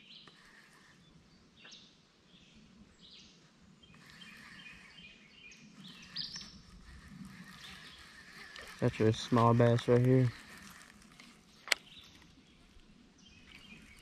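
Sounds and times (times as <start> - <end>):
faint birds chirping: 0.0 - 14.0
outdoor background hush: 0.0 - 14.0.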